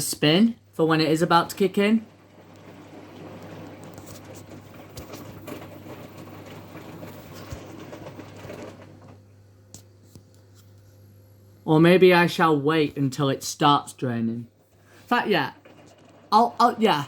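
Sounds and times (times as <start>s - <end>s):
washing machine churning water: 0.0s - 9.7s, 11.7s - 17.0s.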